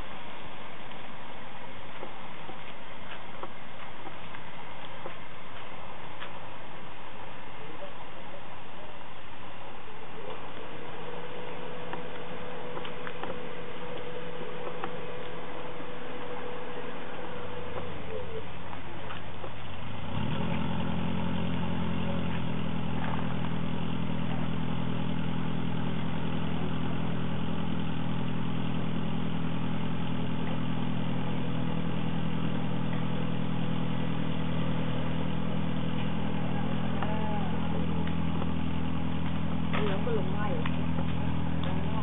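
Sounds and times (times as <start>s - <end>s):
engine running low drone: 0.0s - 42.0s.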